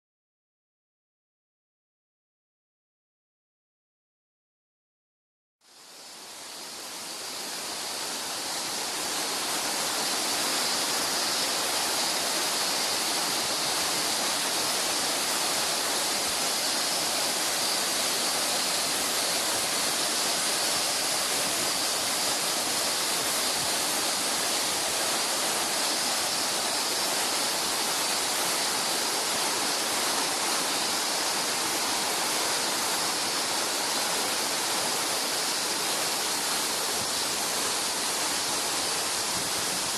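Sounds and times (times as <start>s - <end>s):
waterfall pouring: 7.8s - 39.9s.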